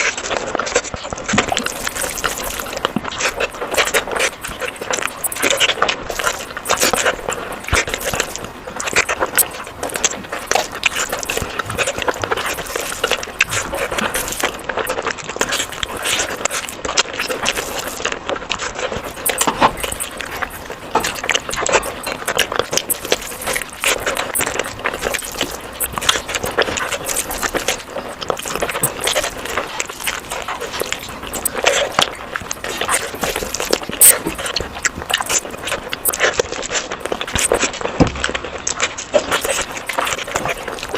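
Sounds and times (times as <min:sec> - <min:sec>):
chewing with mouth clicks: 0:00.0 - 0:40.9.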